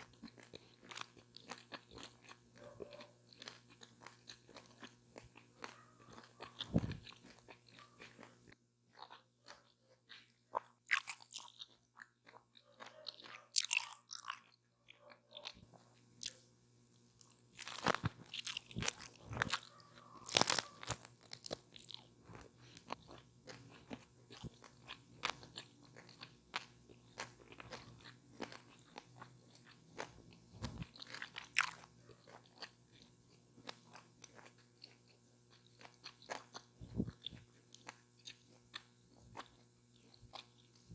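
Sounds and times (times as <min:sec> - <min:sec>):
wet chewing: 0:00.0 - 0:16.4, 0:17.2 - 0:40.9
crunching taco: 0:00.0 - 0:40.9.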